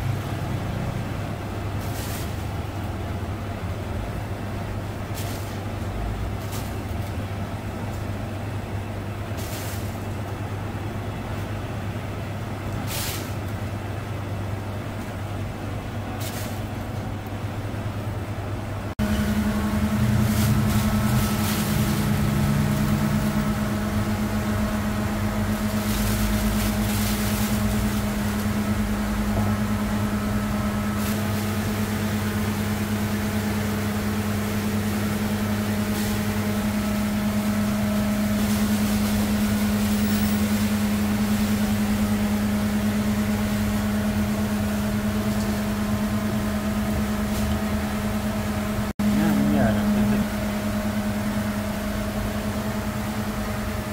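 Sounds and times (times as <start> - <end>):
low mechanical hum: 0.0 - 53.9.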